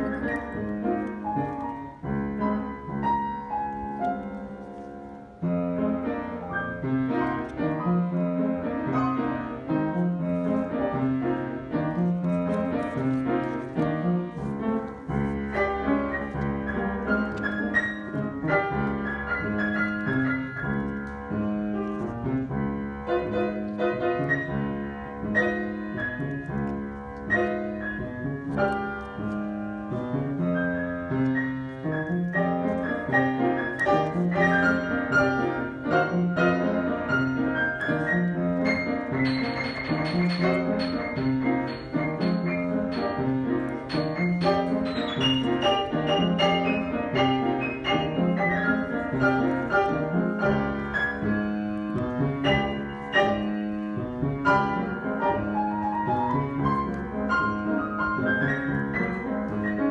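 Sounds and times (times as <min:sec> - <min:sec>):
piano playing: 0:00.0 - 0:59.9.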